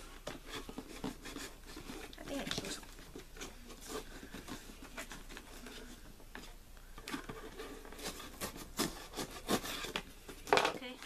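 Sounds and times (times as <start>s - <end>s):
box contents tapping and scraping: 0.0s - 11.0s.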